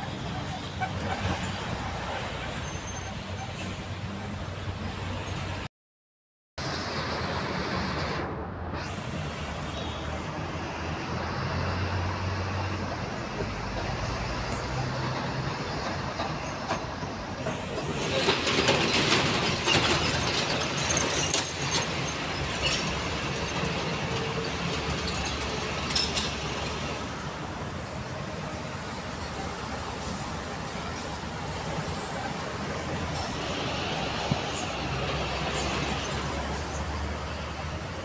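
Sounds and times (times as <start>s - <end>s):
road noise inside vehicle: 0.0s - 5.7s, 6.6s - 38.0s
traffic passing: 0.0s - 5.7s, 6.6s - 38.0s.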